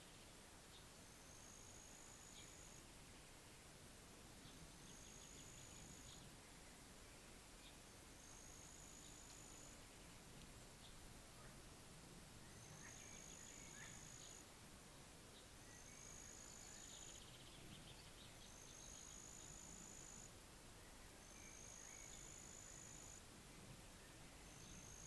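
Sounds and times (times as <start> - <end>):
faint bird chirps: 0.0 - 3.3, 4.4 - 10.2, 12.4 - 14.5, 15.3 - 25.0.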